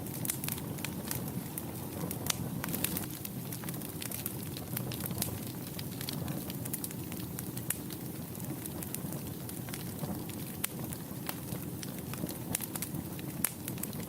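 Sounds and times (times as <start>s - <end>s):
fire crackles and pops: 0.0s - 14.0s
low rumble of flame: 0.0s - 14.0s.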